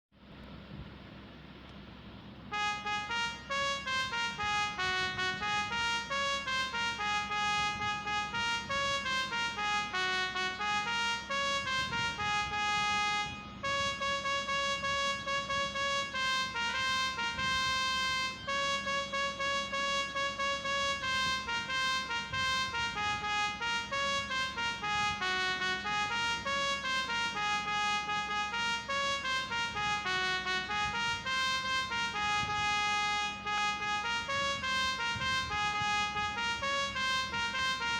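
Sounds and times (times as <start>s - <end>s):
steady low hum: 0.2s - 37.9s
trumpet-like ringtone tune: 2.5s - 37.9s.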